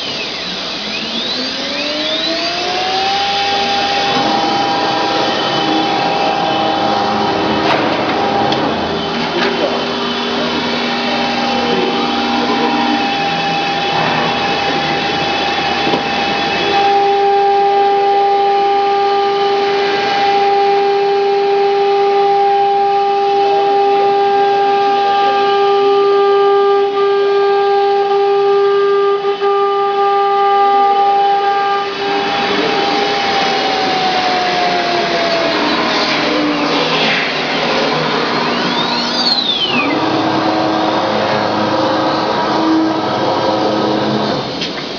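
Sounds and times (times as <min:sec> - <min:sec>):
rushing noise of cutting: 0:00.0 - 0:28.5, 0:30.7 - 0:44.9
router spindle whining: 0:00.0 - 0:44.9.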